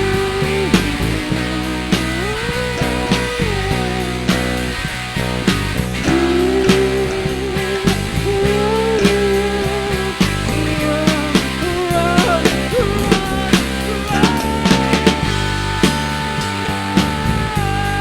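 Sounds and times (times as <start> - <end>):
lead melody with bending notes: 0.0 - 18.0
rock band playing: 0.0 - 18.0.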